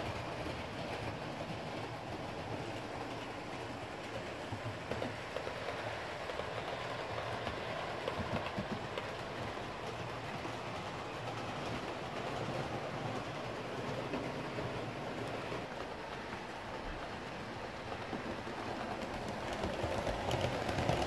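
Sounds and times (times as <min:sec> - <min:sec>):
wheels clicking over rail joints: 0:00.0 - 0:21.0.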